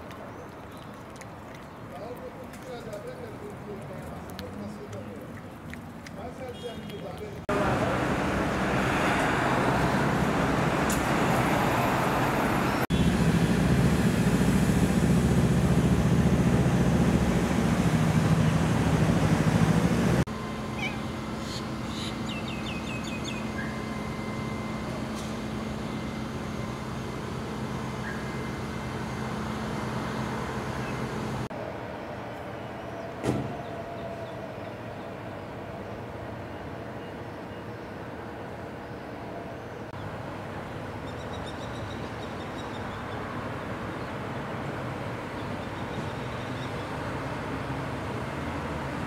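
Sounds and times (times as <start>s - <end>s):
outdoor street noise: 0.0s - 49.0s.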